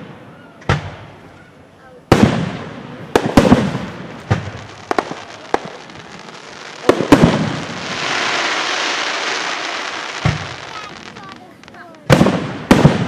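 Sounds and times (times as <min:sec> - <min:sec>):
fireworks bangs: 0:00.0 - 0:13.0
fireworks hiss: 0:02.1 - 0:13.0.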